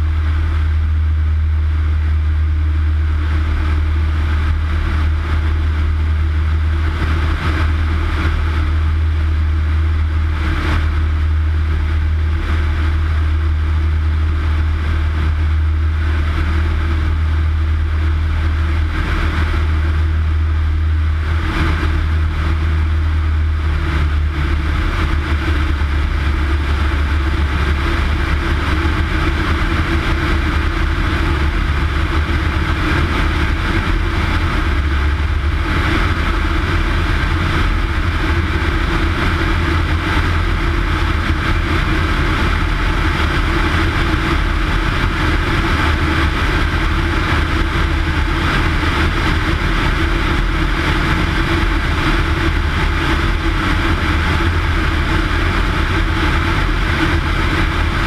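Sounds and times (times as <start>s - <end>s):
light airplane engine drone: 0.0s - 58.0s
wind buffeting microphone: 0.1s - 58.0s.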